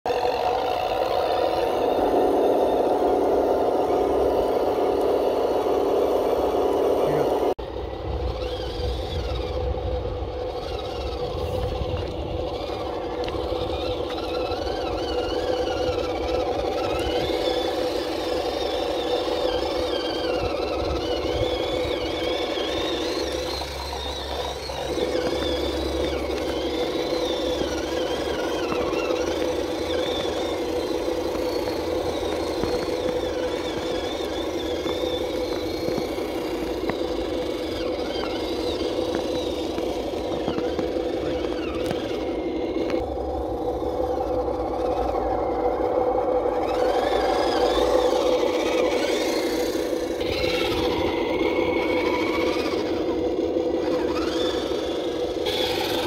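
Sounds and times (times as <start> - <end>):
electric motor whining: 0.1 - 56.0
low drone: 0.1 - 56.0.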